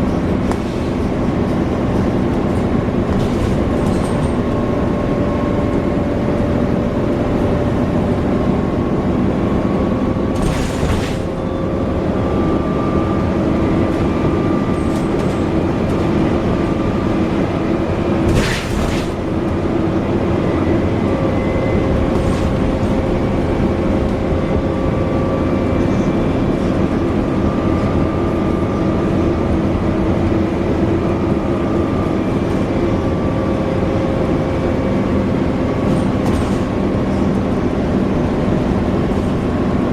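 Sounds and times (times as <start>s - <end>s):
bus drivetrain whine: 0.0s - 39.9s.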